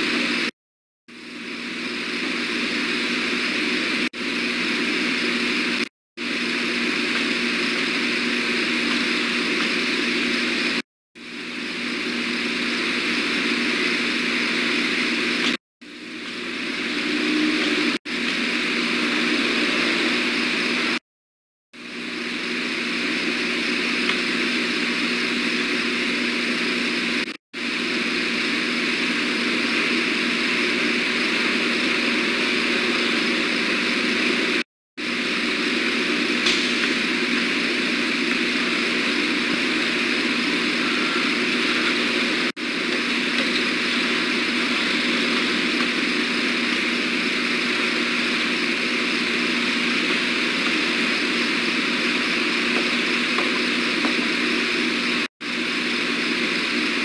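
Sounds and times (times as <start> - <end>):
road traffic drone: 1.1 - 21.0, 21.8 - 56.8.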